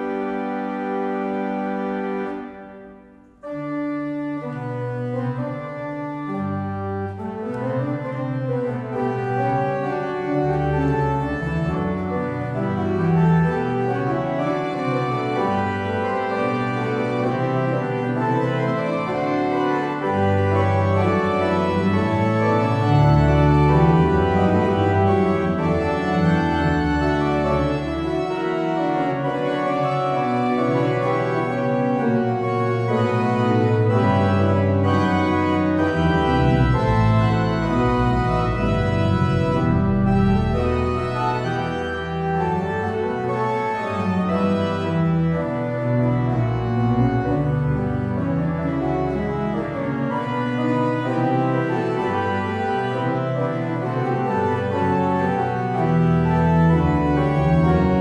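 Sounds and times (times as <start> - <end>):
pipe organ playing chords: 0.0 - 58.0.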